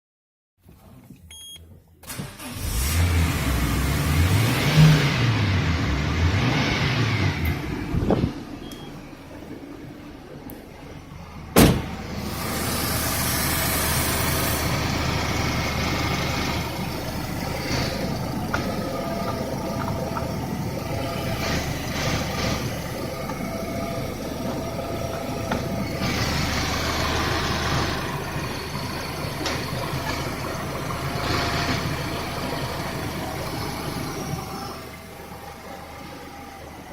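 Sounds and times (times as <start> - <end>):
car engine idling: 5.2 - 36.9.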